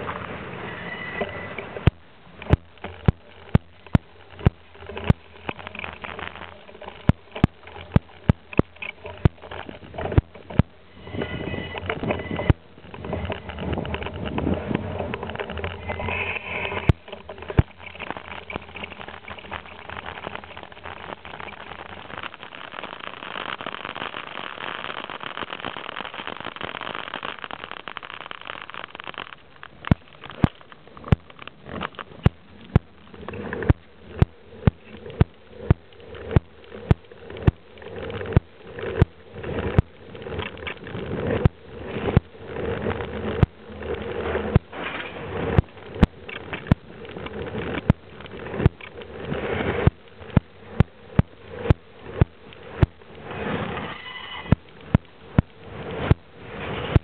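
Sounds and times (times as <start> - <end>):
wheels clacking over rail joints: 0.0 - 24.0, 28.0 - 57.0.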